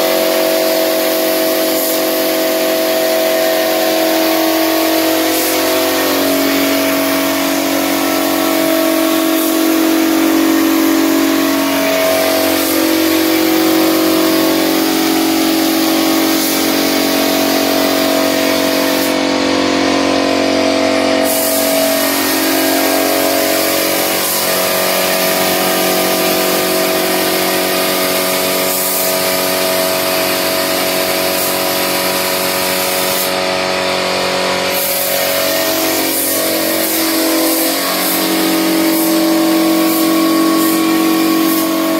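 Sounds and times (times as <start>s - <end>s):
air compressor humming: 0.0s - 41.9s
spray gun hissing: 0.1s - 19.8s, 20.4s - 41.9s.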